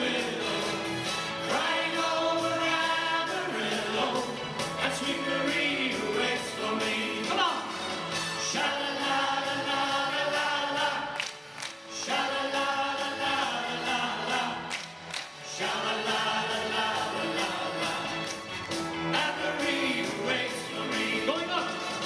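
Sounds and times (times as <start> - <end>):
choir singing pop song: 0.0 - 22.0.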